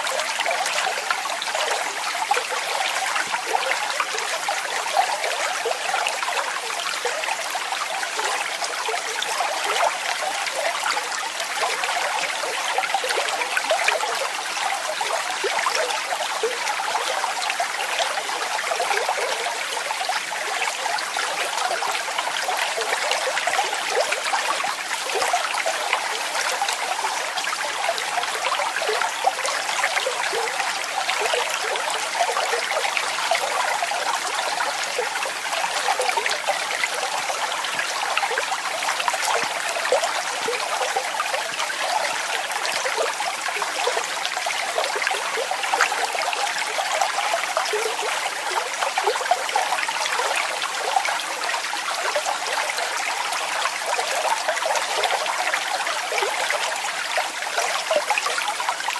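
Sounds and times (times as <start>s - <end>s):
small waterfall splashing: 0.0s - 58.9s.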